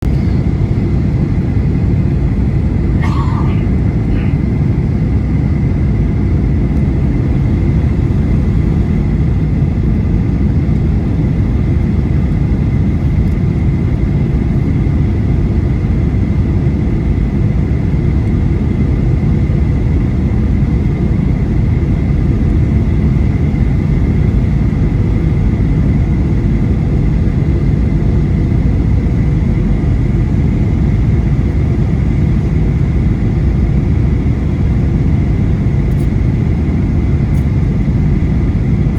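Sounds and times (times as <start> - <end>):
airflow and engine rumble: 0.0 - 38.9.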